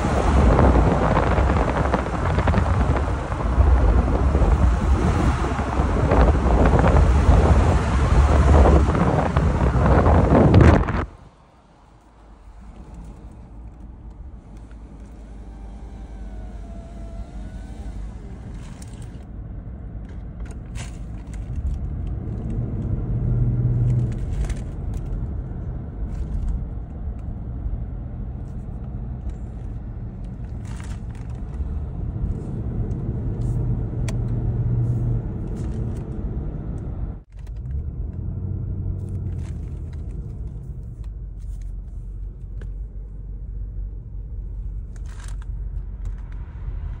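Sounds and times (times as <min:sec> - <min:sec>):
car road and drivetrain rumble: 0:00.0 - 0:47.0.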